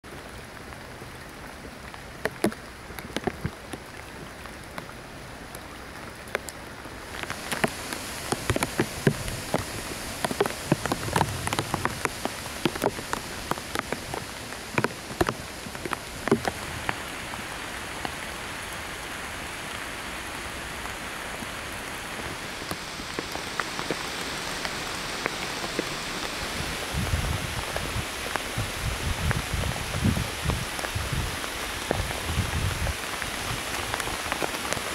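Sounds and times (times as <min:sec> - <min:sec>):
rain falling: 0:00.0 - 0:34.9
raindrops ticking on a surface: 0:00.0 - 0:34.9.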